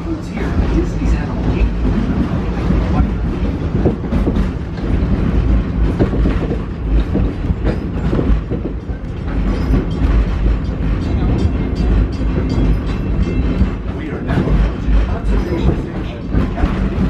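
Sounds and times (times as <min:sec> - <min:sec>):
train cars rumbling: 0:00.0 - 0:17.0
train wheels clicking: 0:00.0 - 0:17.0.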